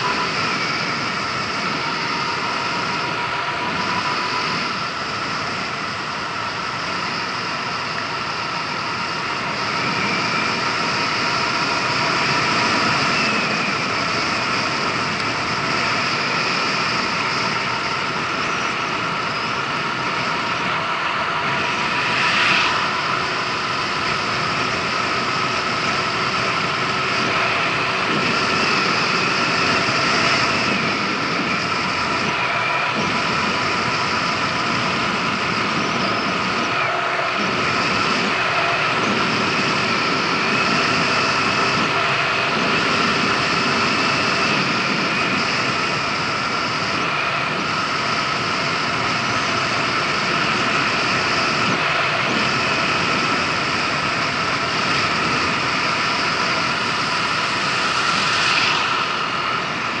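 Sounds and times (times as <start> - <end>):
road noise: 0.0 - 60.0
wind noise: 0.0 - 60.0.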